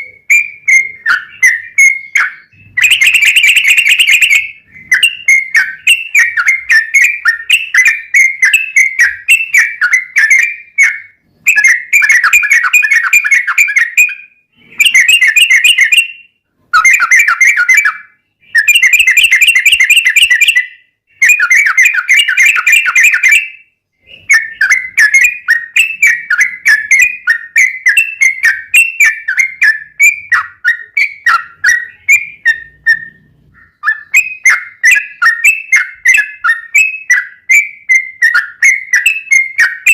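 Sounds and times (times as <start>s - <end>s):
bulbul singing whistled notes: 0.0s - 39.9s.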